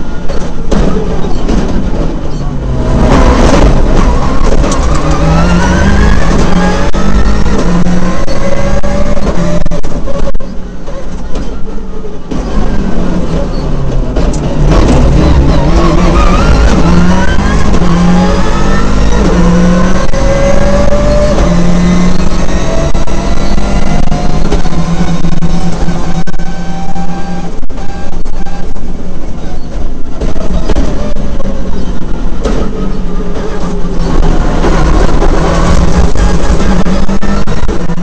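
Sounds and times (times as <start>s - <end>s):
car engine accelerating: 0.0s - 38.0s
road and tyre noise: 0.0s - 38.0s.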